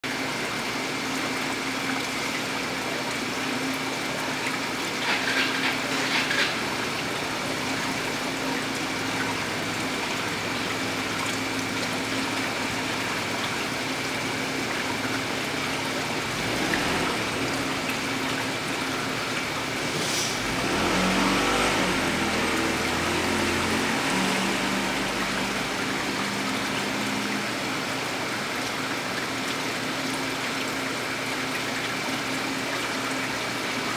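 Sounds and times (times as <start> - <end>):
aquarium water hissing: 0.1 - 33.9.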